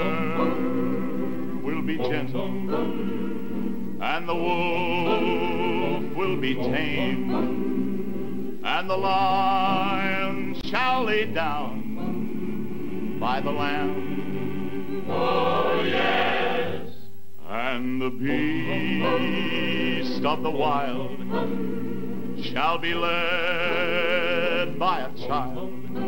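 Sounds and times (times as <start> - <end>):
instrumental accompaniment: 0.0 - 16.9, 18.2 - 26.0
person singing with vibrato: 0.0 - 26.0.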